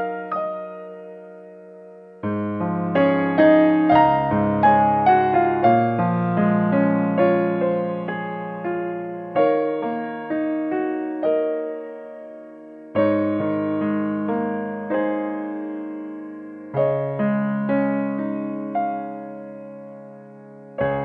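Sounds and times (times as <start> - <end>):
soft piano music: 0.0 - 21.0.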